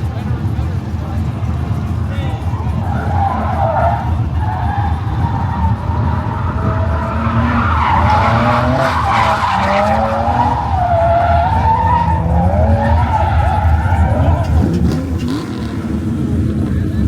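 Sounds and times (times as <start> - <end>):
car engine revving high: 0.4 - 17.0
tyres squealing: 2.4 - 17.0.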